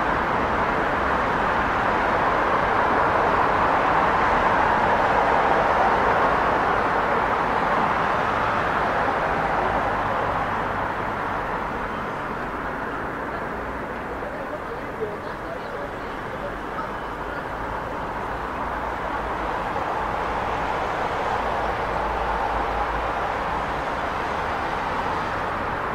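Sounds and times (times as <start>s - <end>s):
busy street traffic: 0.0s - 25.9s.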